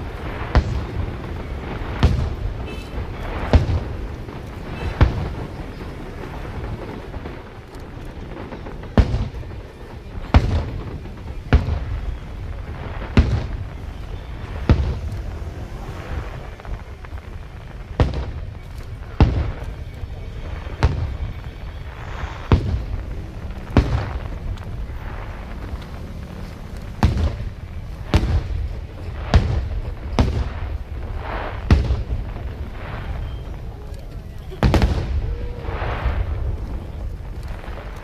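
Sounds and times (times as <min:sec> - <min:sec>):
fireworks bursting: 0:00.0 - 0:38.0
low rumble: 0:00.0 - 0:38.0.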